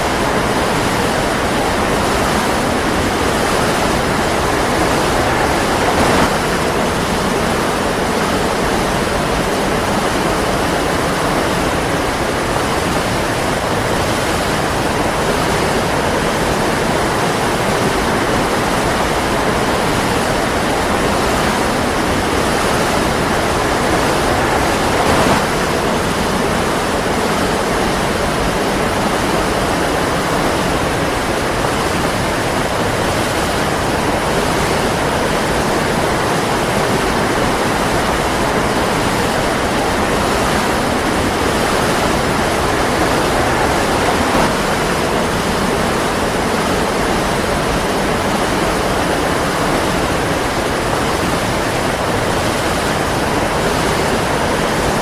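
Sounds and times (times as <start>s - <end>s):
waterfall roar: 0.0s - 55.0s.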